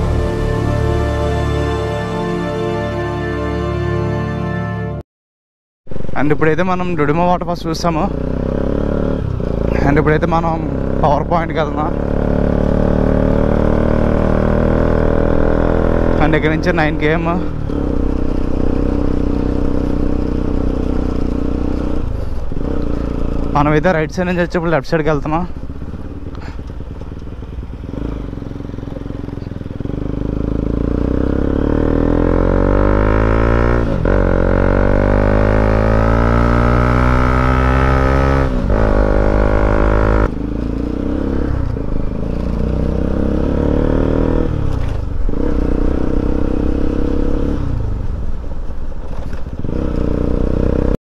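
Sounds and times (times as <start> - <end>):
motorcycle engine accelerating: 0.0 - 2.5, 6.7 - 51.0.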